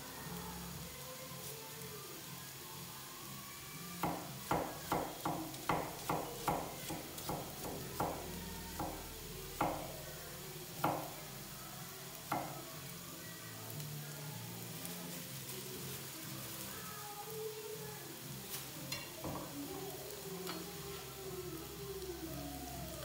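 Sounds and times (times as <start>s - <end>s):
shallots sizzling in oil: 0.0s - 23.0s.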